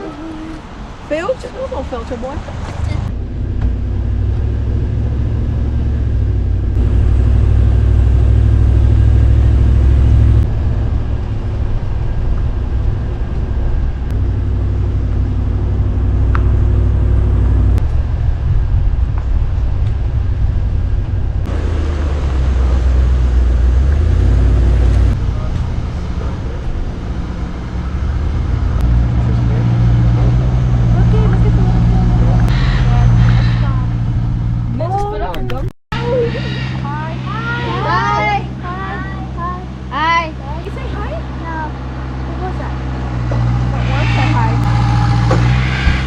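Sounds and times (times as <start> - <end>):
car engine and road rumble: 0.0 - 46.0
faint drone: 3.1 - 34.8, 36.0 - 46.0.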